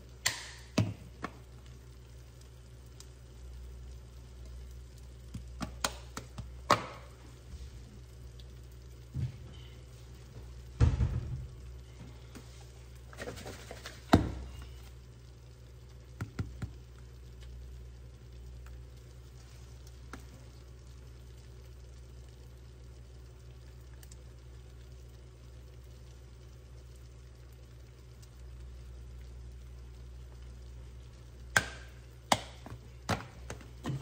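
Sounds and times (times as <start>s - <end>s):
egg frying in a pan: 0.0s - 34.0s
steady low hum: 0.0s - 34.0s.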